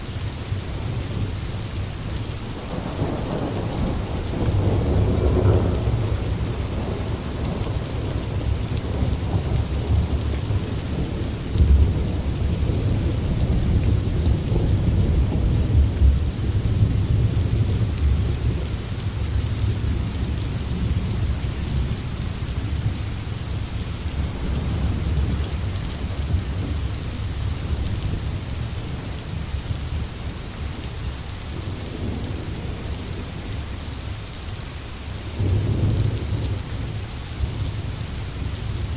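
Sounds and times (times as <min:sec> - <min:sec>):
rain falling on trees: 0:00.0 - 0:38.9
low rolling thunder: 0:02.6 - 0:30.4, 0:31.5 - 0:33.6, 0:35.3 - 0:38.9.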